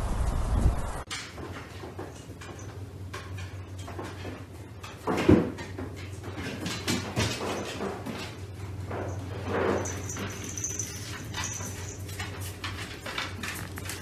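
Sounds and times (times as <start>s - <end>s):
dog moving on wooden stairs: 1.2s - 14.0s.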